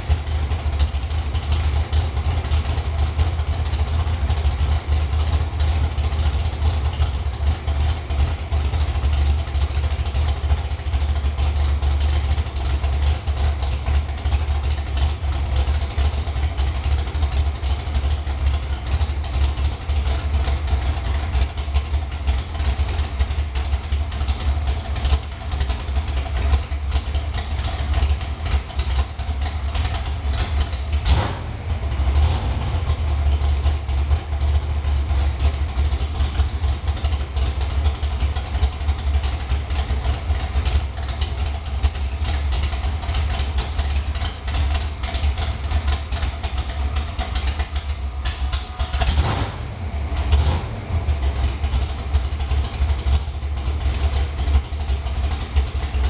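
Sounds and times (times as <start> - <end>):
race truck engine idling: 0.0 - 56.0.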